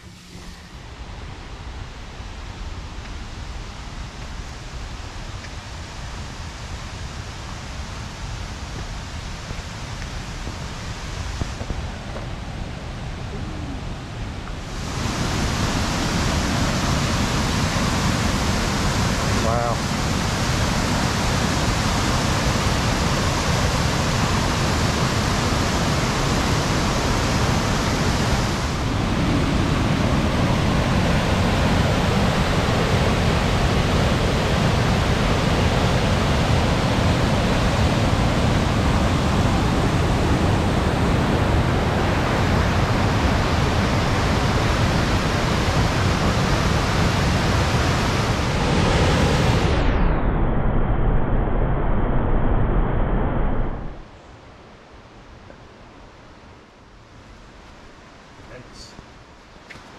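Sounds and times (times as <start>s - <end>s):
waterfall and rapids rushing: 0.0s - 49.9s.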